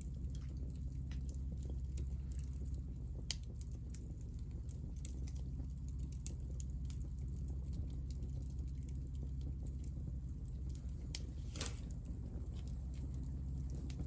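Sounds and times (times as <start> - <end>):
steady low rumble: 0.0 - 14.0
wood fire crackling and popping: 0.0 - 14.0.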